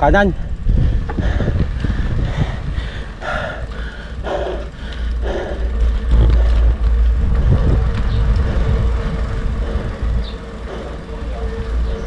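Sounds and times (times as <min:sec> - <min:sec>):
road noise: 0:00.0 - 0:12.0
wind rumbling on microphone: 0:00.0 - 0:12.0.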